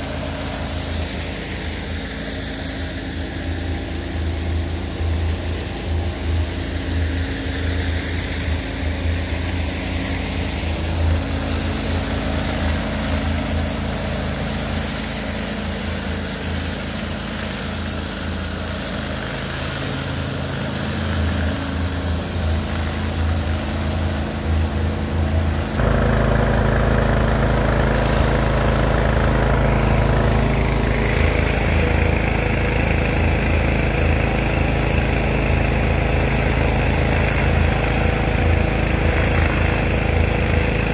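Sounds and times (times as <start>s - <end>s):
pressure washer engine running: 0.0s - 40.9s
water spraying under pressure: 0.0s - 40.9s.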